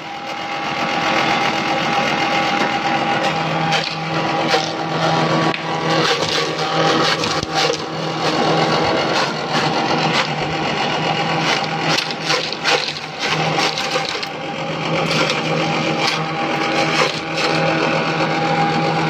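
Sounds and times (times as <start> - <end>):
chopper motor hum: 0.0 - 19.0
blades shredding cabbage: 0.7 - 19.0.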